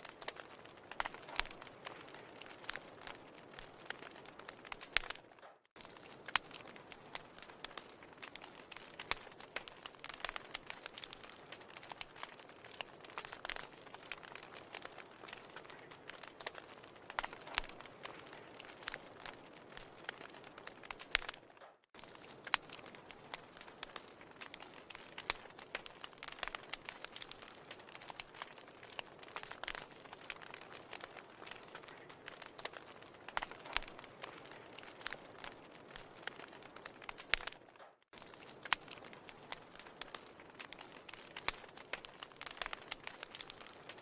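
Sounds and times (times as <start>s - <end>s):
fire crackling in fireplace: 0.0s - 44.0s.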